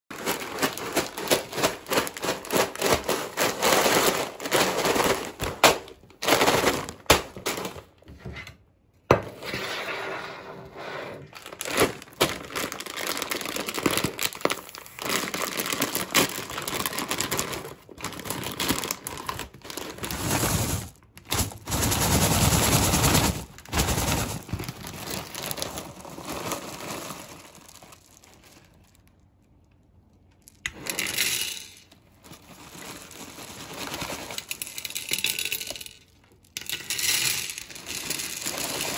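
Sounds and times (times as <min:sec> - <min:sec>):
cereal pieces rattling: 0:00.1 - 0:08.0, 0:11.3 - 0:29.0, 0:30.5 - 0:38.9
plastic bag crinkling: 0:00.1 - 0:08.1, 0:11.3 - 0:31.0, 0:31.8 - 0:38.9.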